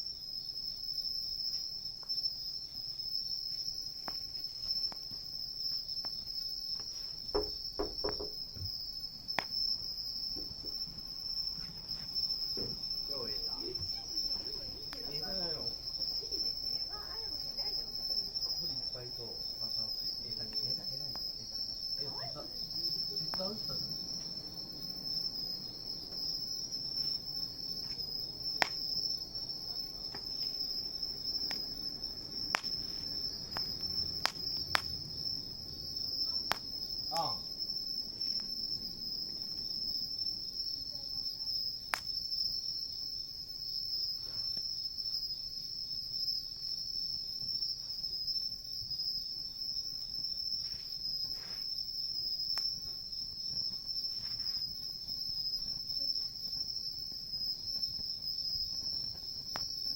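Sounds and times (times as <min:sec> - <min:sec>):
campfire crackling: 0:00.0 - 0:59.9
insects trilling: 0:00.0 - 0:59.9.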